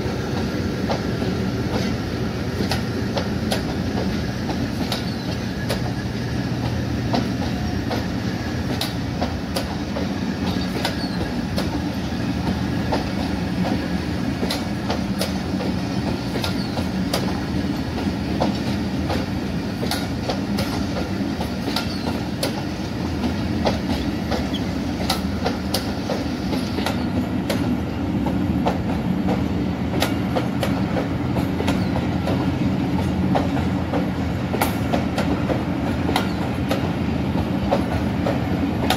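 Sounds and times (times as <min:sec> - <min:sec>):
train wheels rumbling: 0:00.0 - 0:38.9
wheels clacking over rail joints: 0:00.3 - 0:38.9.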